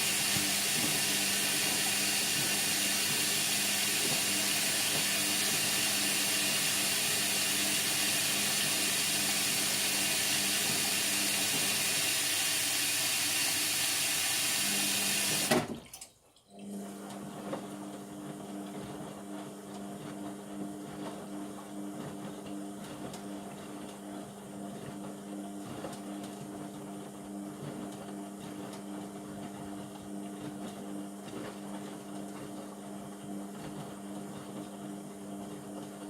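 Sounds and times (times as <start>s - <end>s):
water rushing into washing machine: 0.0s - 36.0s.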